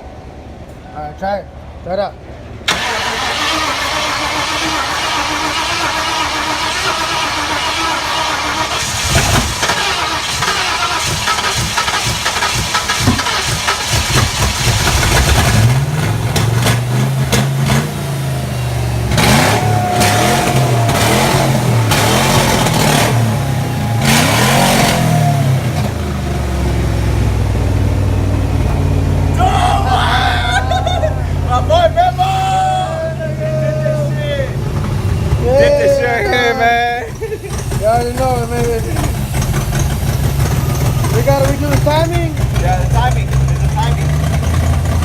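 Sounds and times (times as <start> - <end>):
car engine cranking and revving: 2.6 - 45.0.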